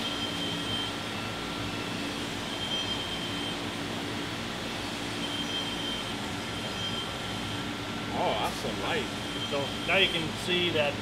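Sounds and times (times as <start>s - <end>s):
faint high whine: 0.0s - 11.0s
machinery humming: 0.0s - 11.0s.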